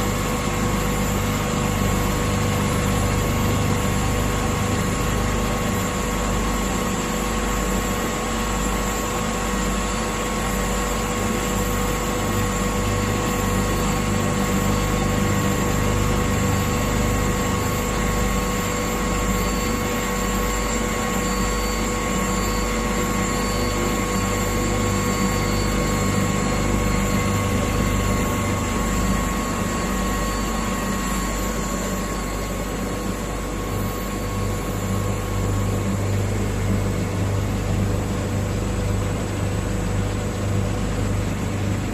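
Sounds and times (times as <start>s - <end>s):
grinding machine running: 0.0s - 41.9s.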